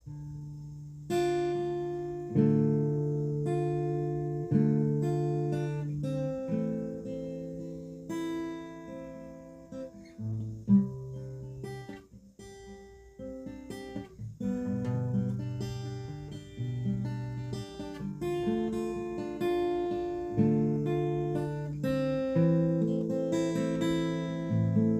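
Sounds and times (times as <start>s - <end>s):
acoustic guitar chords ringing: 0.0s - 24.9s.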